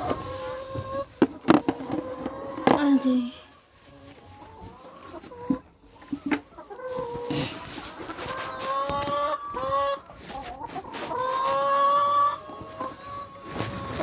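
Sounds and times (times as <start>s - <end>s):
chickens calling: 0.0s - 14.0s.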